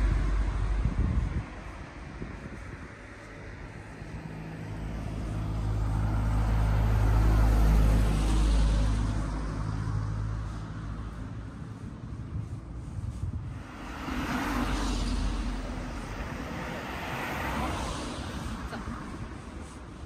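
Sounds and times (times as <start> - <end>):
car driving past: 0.0 - 2.3, 3.5 - 11.1, 13.6 - 19.8.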